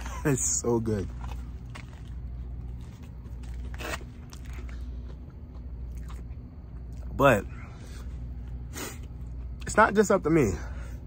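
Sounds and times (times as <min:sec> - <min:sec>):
chewing crunchy food: 0:00.0 - 0:09.8
steady low hum: 0:00.0 - 0:11.0.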